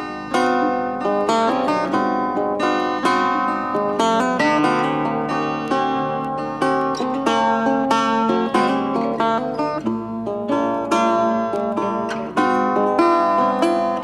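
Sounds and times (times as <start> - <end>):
plucked acoustic guitar music: 0.0 - 14.0.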